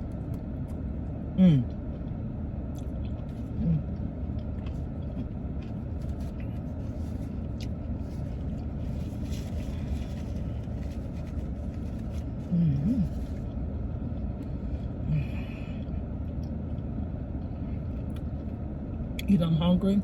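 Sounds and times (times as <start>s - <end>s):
low rumble in car cabin: 0.0s - 20.0s.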